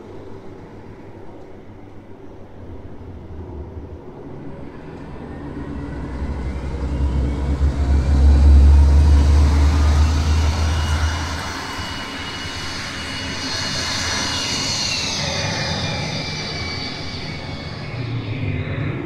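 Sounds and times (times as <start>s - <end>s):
jet engine rumble: 0.0s - 19.0s
high jet whine: 2.5s - 19.0s.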